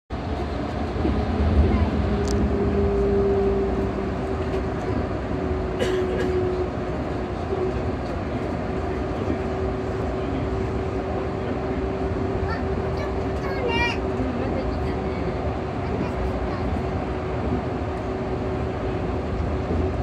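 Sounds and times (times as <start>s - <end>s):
train running rumble: 0.1s - 20.0s.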